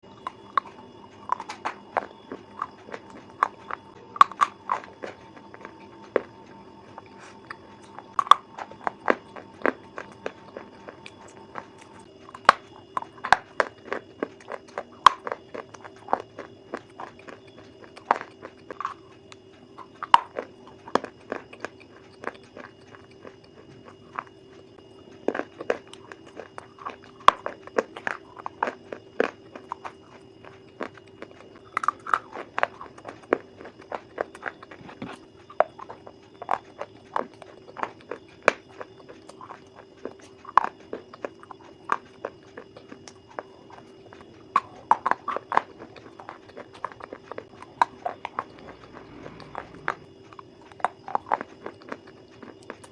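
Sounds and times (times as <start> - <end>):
crunchy food being chewed: 0.0 - 52.9
steady hum: 0.0 - 52.9.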